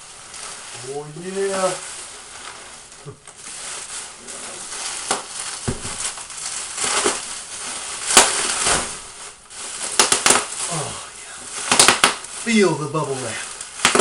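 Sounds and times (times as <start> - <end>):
bubble wrap crinkling and crackling: 0.0 - 14.0.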